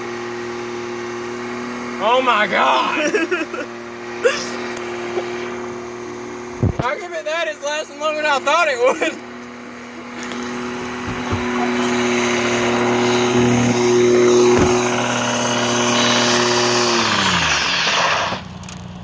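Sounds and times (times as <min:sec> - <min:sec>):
engine revving high: 0:00.0 - 0:06.9, 0:07.7 - 0:18.5
spinning tyres hissing: 0:00.0 - 0:19.0.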